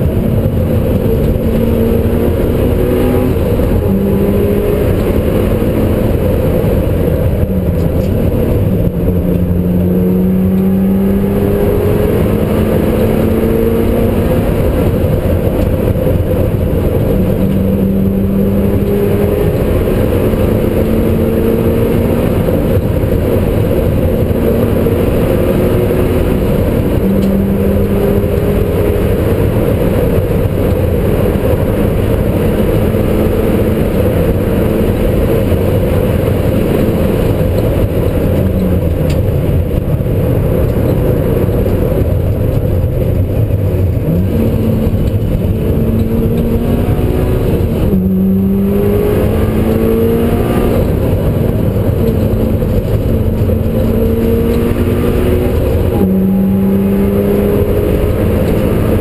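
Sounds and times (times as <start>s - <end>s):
car engine accelerating through gears: 0.0s - 59.0s
road noise rumble: 0.0s - 59.0s.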